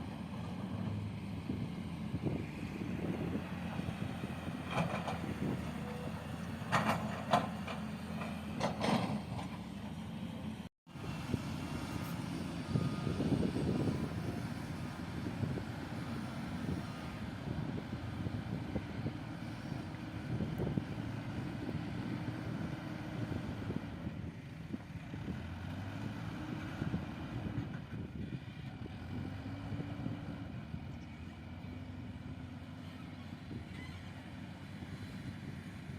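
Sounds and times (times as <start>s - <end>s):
construction machine engine rumbling: 0.0s - 35.9s.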